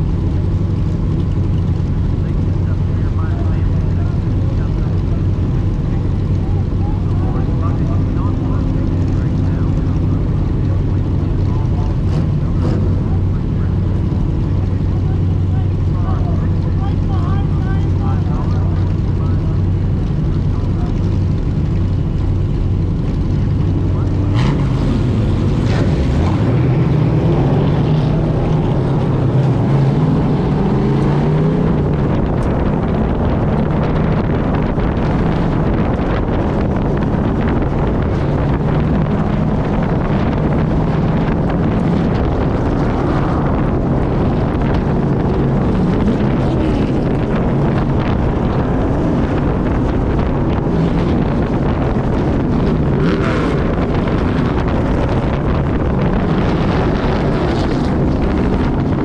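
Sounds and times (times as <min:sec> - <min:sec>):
truck engine revving: 0:00.0 - 0:59.0
wind buffeting microphone: 0:00.0 - 0:59.0.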